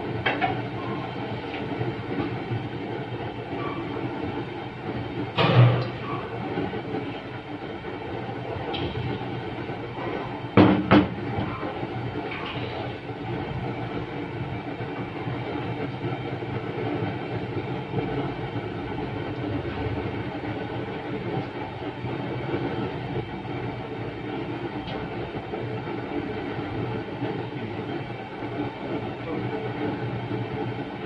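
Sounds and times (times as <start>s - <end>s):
gas burner flame rushing: 0.0s - 31.0s.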